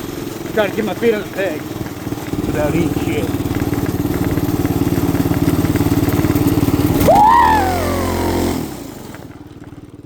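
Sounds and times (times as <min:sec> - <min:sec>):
small engine revving: 0:00.0 - 0:10.0.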